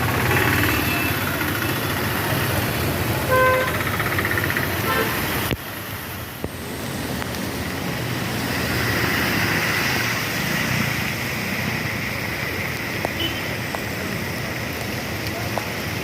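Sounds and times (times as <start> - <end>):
traffic on wet road: 0.0 - 16.0.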